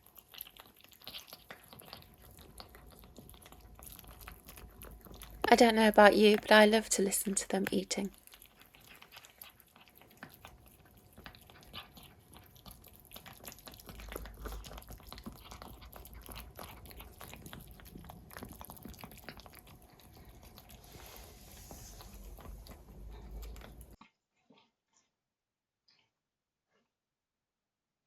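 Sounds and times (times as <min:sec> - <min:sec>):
kittens smacking and chewing: 0:00.0 - 0:24.0.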